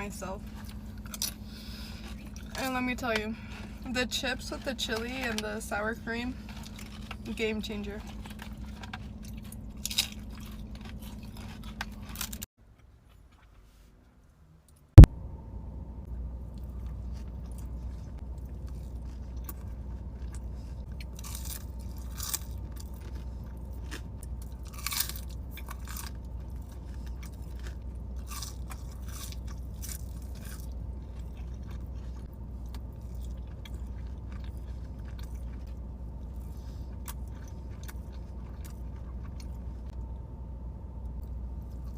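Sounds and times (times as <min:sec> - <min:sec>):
chewing and crunching food: 0:00.0 - 0:14.2, 0:16.4 - 0:41.9
steady low hum: 0:00.0 - 0:41.9.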